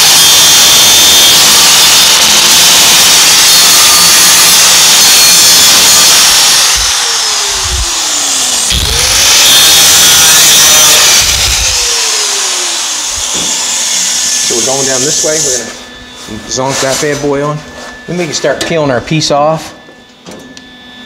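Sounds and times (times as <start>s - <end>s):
angle grinder cutting sheet metal: 0.0s - 19.9s.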